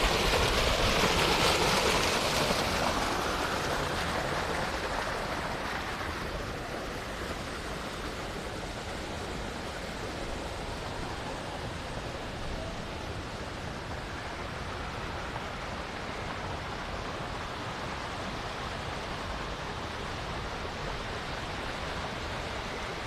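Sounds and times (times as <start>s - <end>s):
water gushing into a pool: 0.0s - 23.0s.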